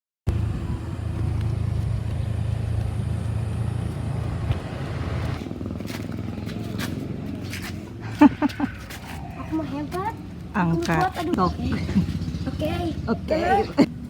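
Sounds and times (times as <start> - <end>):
engine humming: 0.3 - 14.0.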